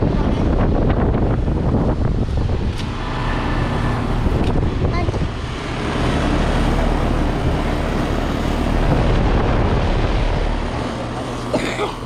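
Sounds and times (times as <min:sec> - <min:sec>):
condenser fans roaring: 0:00.0 - 0:12.0
low compressor hum: 0:00.0 - 0:12.0.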